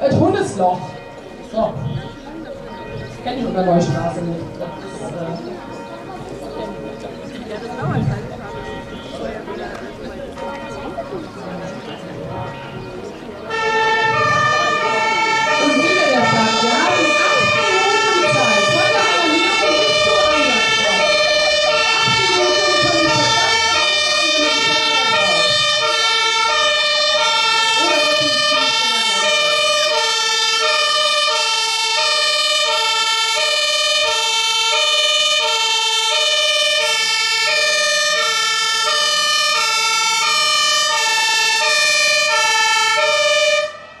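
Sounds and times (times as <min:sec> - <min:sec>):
two-tone fire engine siren: 0:00.0 - 0:44.0.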